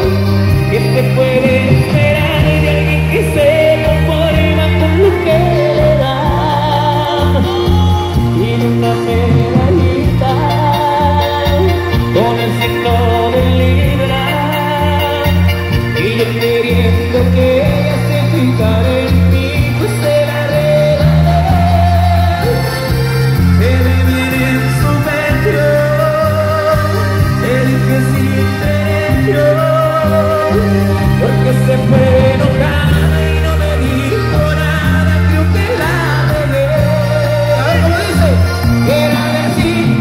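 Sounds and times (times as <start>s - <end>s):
electric bass line: 0.0s - 40.0s
guitar: 0.0s - 40.0s
keyboards: 0.0s - 40.0s
lead singer singing: 0.0s - 40.0s.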